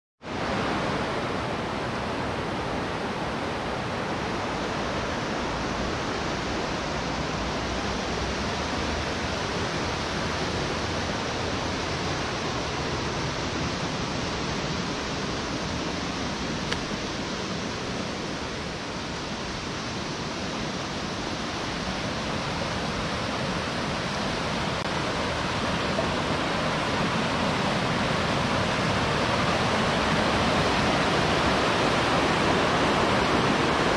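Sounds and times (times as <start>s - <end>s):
river rapids rushing: 0.2s - 33.9s.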